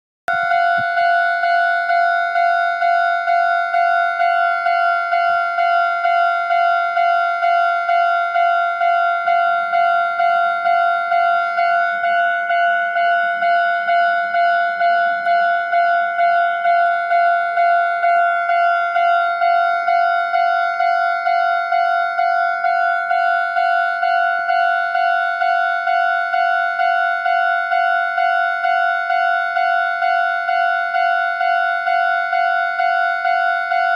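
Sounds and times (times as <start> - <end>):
railroad crossing bell ringing: 0.3 - 33.9.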